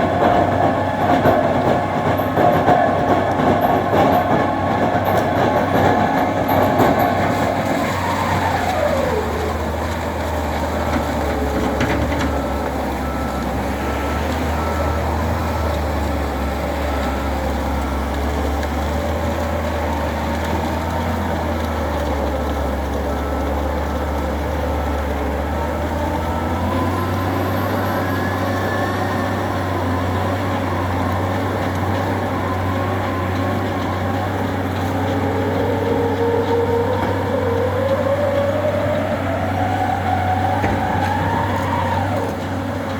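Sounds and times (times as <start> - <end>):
loader engine running: 0.0 - 42.9.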